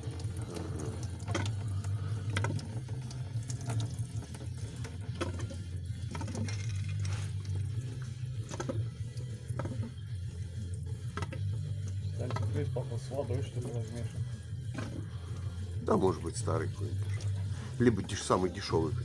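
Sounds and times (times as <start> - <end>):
liquid running out of hose: 0.0 - 18.8.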